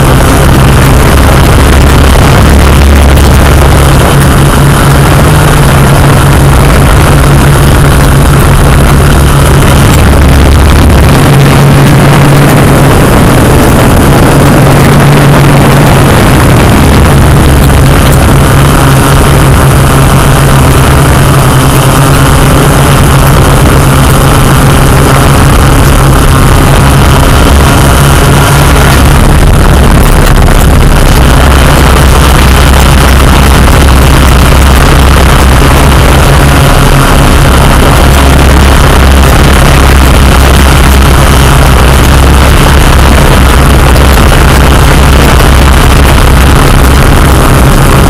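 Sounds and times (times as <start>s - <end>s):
drone propellers whirring: 0.0s - 48.0s.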